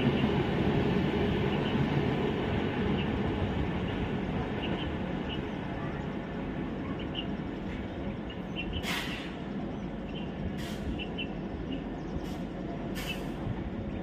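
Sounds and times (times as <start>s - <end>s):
small birds chirping: 1.3s - 14.0s.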